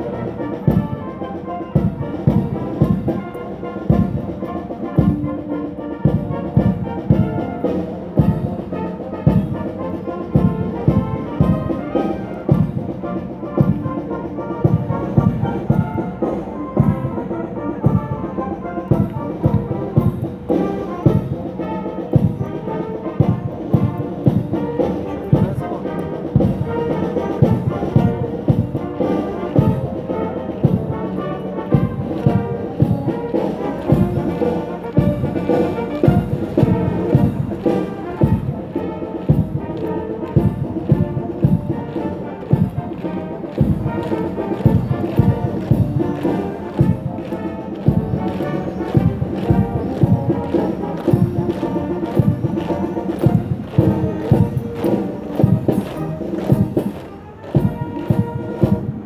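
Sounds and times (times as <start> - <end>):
brass band playing a march: 0.0 - 59.0
steady drum beat: 0.0 - 59.0.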